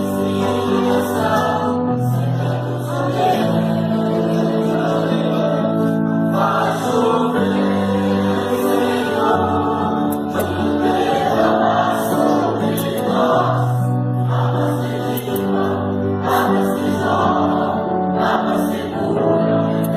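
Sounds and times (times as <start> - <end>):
choir singing gospel: 0.0 - 19.9
musical backing: 0.0 - 19.9.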